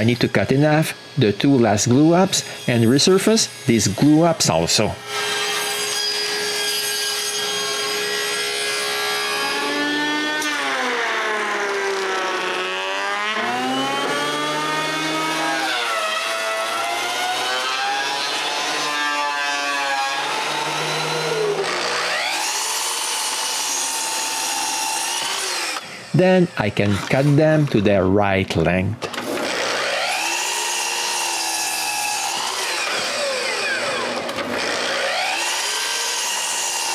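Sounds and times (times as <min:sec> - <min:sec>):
power tool motor whining under load: 0:00.0 - 0:27.6, 0:29.0 - 0:36.9.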